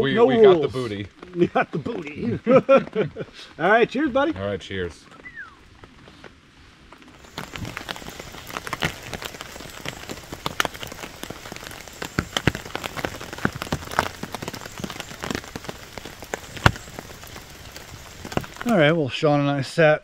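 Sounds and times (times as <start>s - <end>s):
rain drops falling: 0.0s - 19.6s
steady rain patter: 0.0s - 20.0s.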